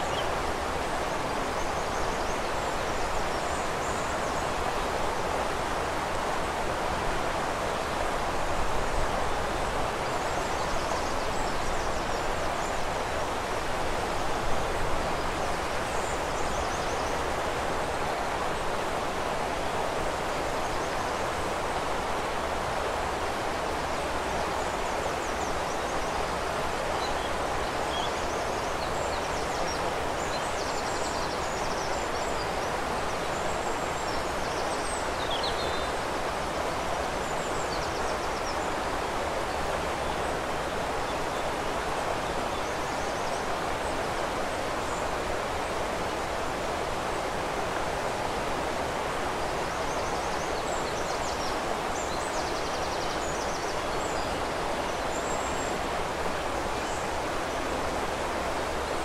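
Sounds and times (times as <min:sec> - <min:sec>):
flowing river water: 0:00.0 - 0:59.0
songbirds chirping: 0:00.0 - 0:59.0.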